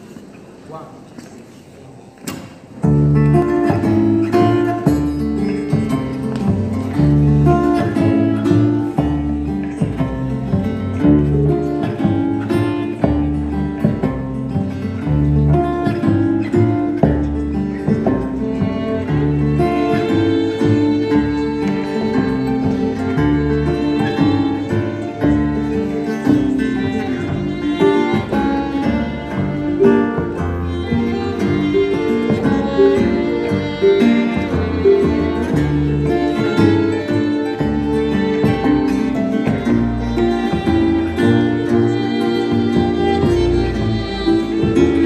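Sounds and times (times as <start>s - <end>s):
guitar: 2.1s - 45.0s
violin: 2.3s - 45.0s
double bass: 2.8s - 45.0s
plucked harp: 2.8s - 45.0s.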